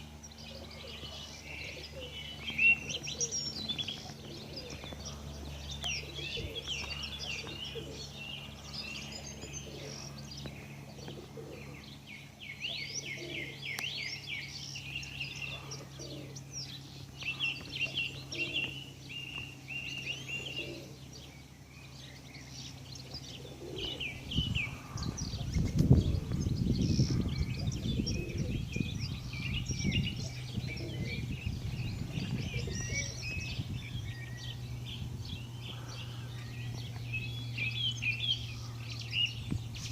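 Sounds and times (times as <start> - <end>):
low rumbling noise: 0.0 - 39.9
small birds chirping: 0.0 - 39.9
steady low hum: 0.0 - 39.9.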